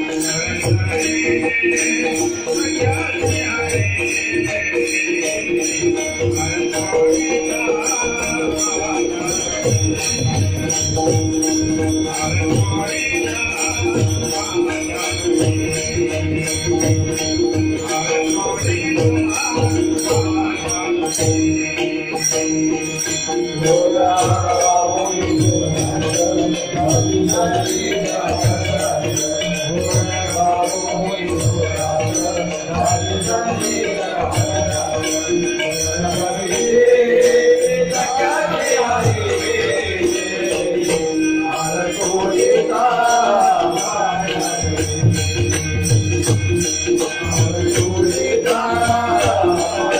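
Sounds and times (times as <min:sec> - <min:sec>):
jingling cymbals: 0:00.0 - 0:49.9.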